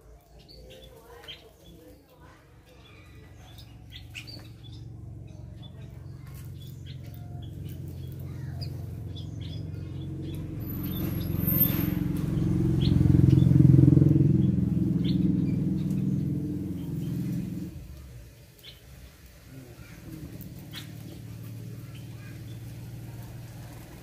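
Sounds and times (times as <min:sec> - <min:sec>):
passing vehicle engine rumble: 0:00.0 - 0:24.0
small birds chirping: 0:00.0 - 0:24.0.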